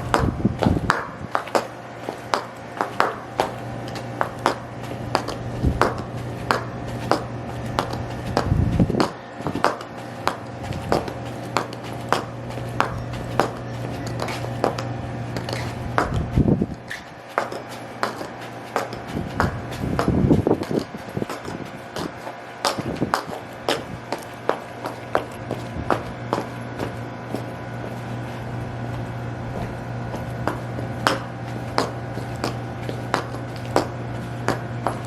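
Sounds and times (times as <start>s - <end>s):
steady low hum: 0.0s - 35.0s
high heels clicking on hard floor: 0.1s - 35.0s.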